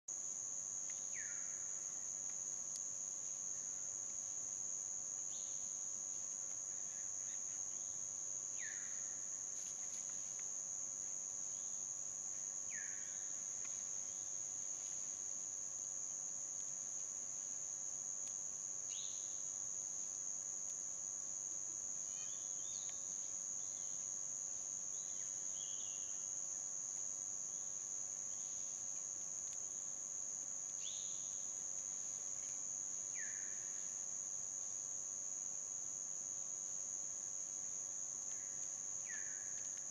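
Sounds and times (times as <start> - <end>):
high-pitched insect drone: 0.9 - 2.2, 3.0 - 39.9.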